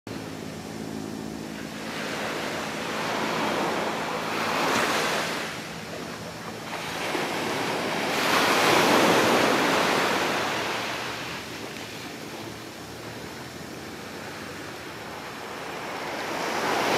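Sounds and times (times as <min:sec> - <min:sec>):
small waves breaking on sand: 0:00.1 - 0:16.9.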